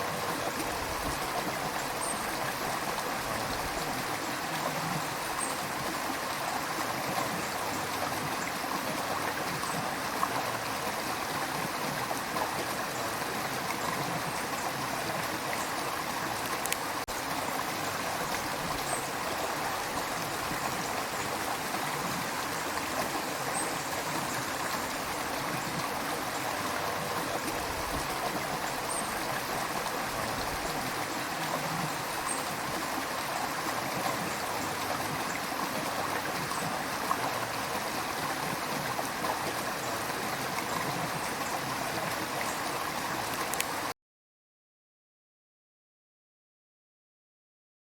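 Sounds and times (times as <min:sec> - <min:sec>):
river water flowing over stones: 0:00.0 - 0:43.9.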